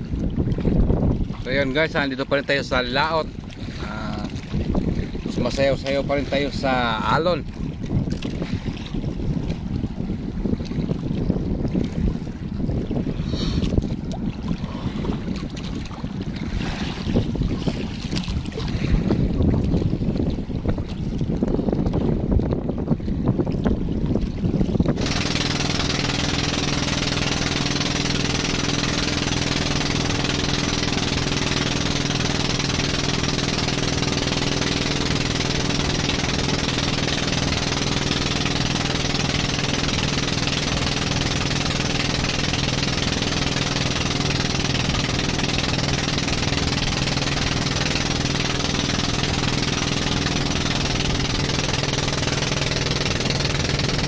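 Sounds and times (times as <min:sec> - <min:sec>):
boat engine running: 0:00.0 - 0:54.0
water washing against hull: 0:00.0 - 0:54.0.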